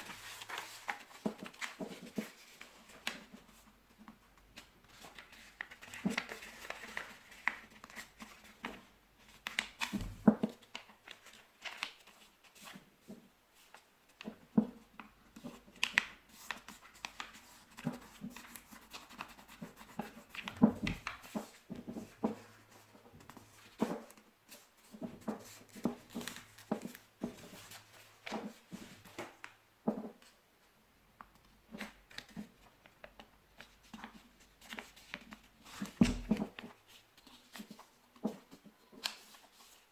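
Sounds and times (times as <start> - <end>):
paper rustling: 0.0 - 14.4, 15.0 - 30.3, 31.7 - 39.9.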